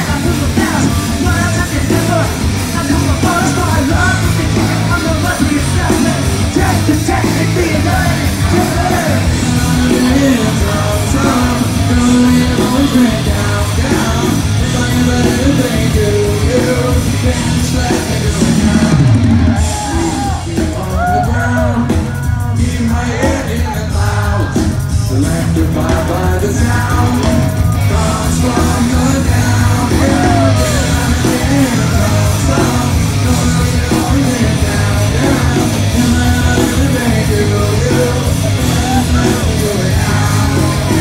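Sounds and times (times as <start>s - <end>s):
lead vocalist singing: 0.0s - 41.0s
live rock band playing: 0.0s - 41.0s.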